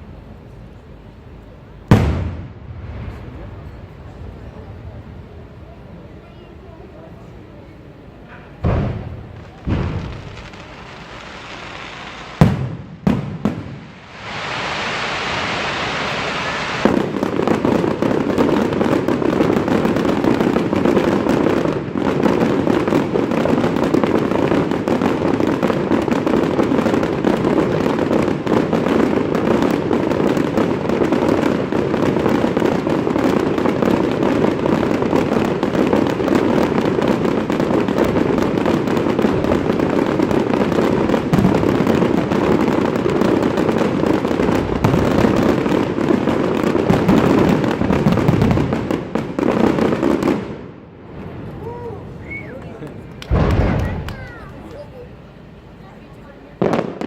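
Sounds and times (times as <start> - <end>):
rapid fireworks pops: 1.8 - 4.9, 8.2 - 57.0
fireworks bangs: 1.8 - 7.4, 8.1 - 57.0
fireworks hissing rush: 8.2 - 57.0.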